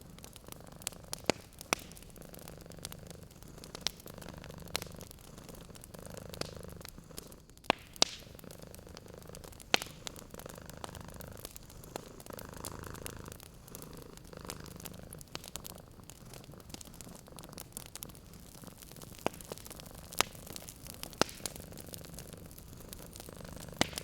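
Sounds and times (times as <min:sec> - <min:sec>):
cat purring: 0:00.0 - 0:24.0
fire pops: 0:00.0 - 0:24.0
wood fire crackling: 0:00.0 - 0:24.0.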